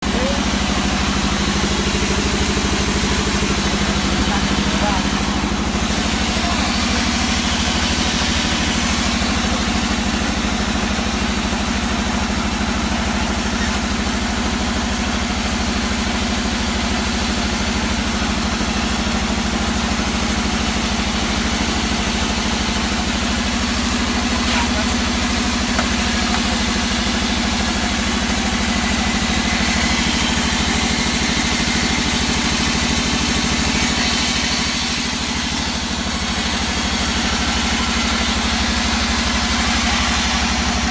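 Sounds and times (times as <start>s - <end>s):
log saw engine running: 0.0s - 40.9s.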